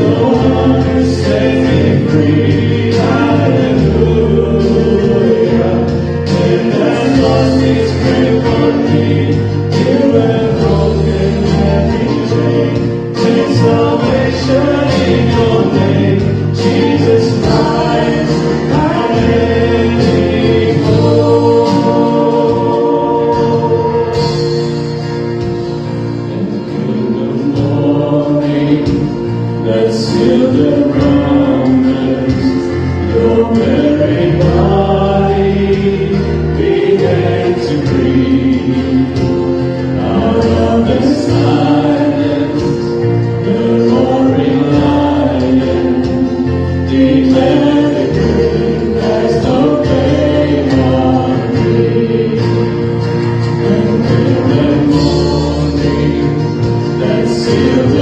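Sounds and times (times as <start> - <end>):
acoustic guitars: 0.0 - 58.0
backing singers: 0.0 - 58.0
drums: 0.0 - 58.0
keyboard: 0.0 - 58.0
male lead singer: 0.0 - 58.0.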